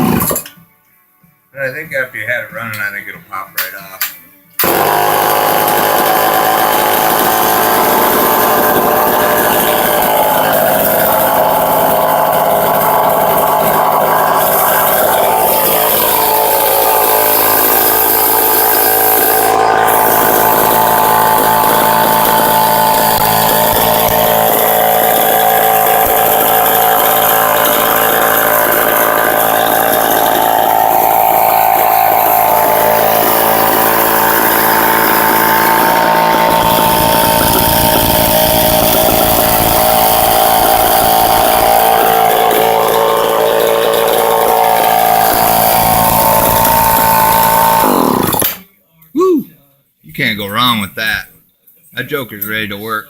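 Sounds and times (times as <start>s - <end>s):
chainsaw starting and running: 0.0s - 0.5s, 4.6s - 48.6s.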